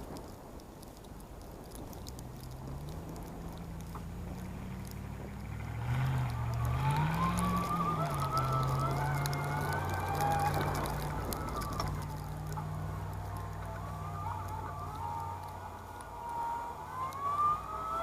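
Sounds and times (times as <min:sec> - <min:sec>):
high wavering whine: 0:02.2 - 0:18.0
scooter motor whining: 0:03.2 - 0:18.0.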